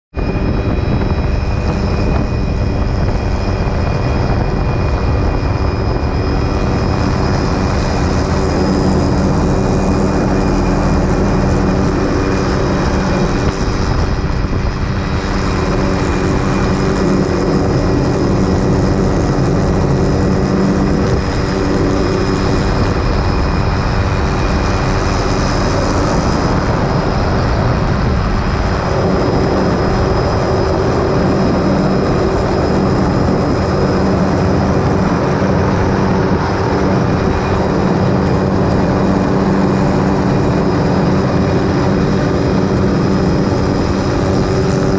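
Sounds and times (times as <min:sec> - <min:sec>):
helicopter rotor and engine drone: 0:00.1 - 0:44.9
wind rushing: 0:00.2 - 0:44.9.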